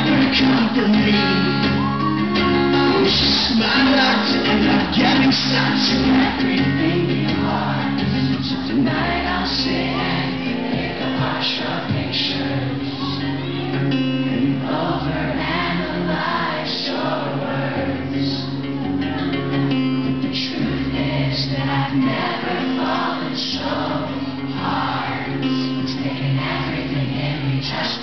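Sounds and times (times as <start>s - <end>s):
acoustic guitars strumming: 0.0s - 28.0s
person singing: 0.0s - 28.0s.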